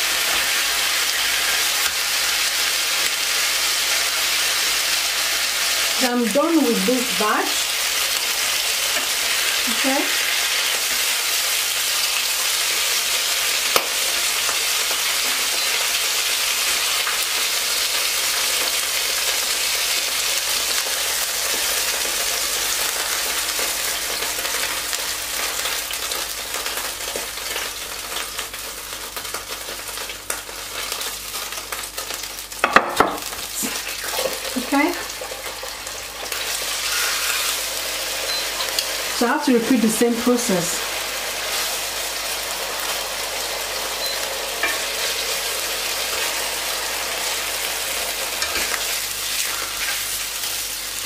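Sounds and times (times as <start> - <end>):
chicken sizzling in frying pan: 0.0 - 51.0.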